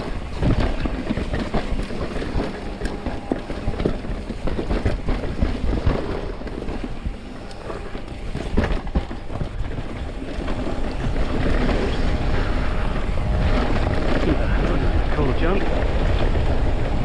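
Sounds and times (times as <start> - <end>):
bike rattling over bumps: 0.0 - 17.0
bike tyres rolling on dirt: 0.0 - 17.0
wind rushing over microphone: 0.0 - 17.0.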